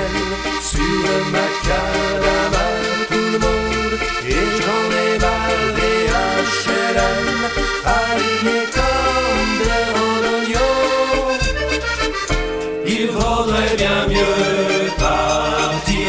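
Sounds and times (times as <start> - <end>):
accordion music with beat: 0.0 - 16.0.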